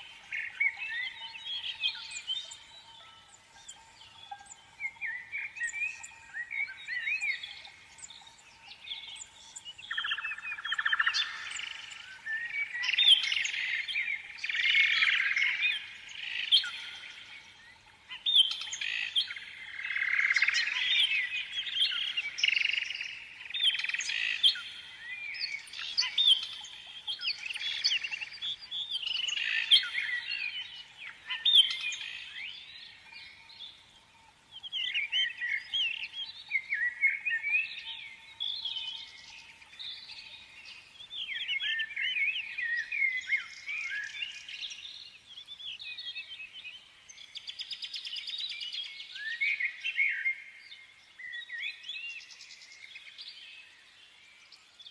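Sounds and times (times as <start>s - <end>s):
small songbirds chirping: 0.0s - 54.9s.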